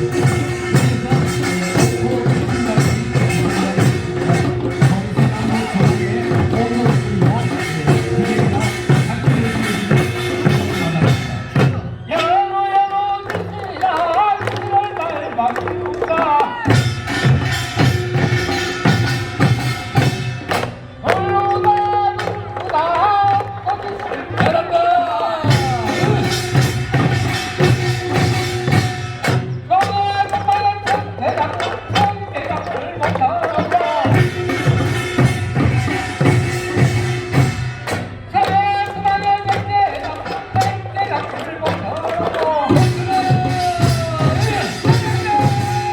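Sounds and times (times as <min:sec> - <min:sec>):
wavering singing voices: 0:00.0 - 0:20.2, 0:21.0 - 0:45.9
rhythmic drumming: 0:00.0 - 0:45.9.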